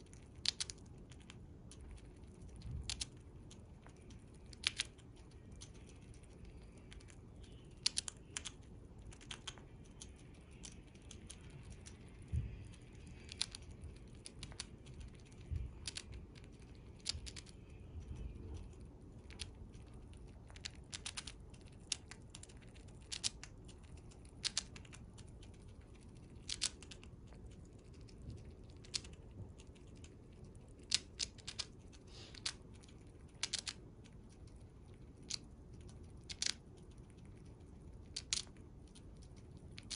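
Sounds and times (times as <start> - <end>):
chipmunk gnawing crunching clicks: 0.0 - 39.9.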